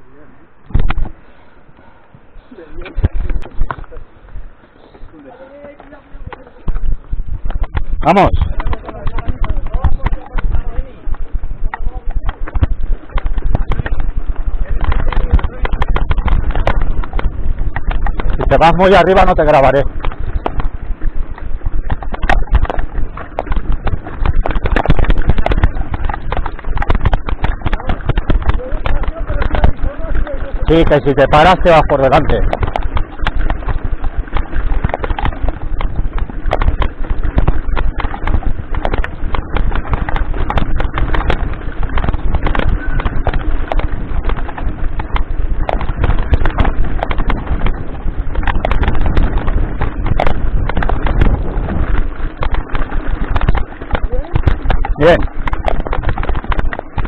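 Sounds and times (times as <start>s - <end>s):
low vibration rumble: 0.0s - 57.0s
bike rattling over rocks: 0.6s - 1.2s, 2.5s - 57.0s.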